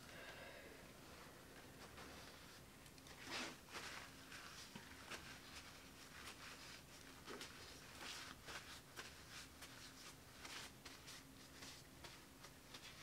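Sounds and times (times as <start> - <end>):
faint steady hum: 0.0 - 13.0
soft ticks and rustles: 1.6 - 13.0.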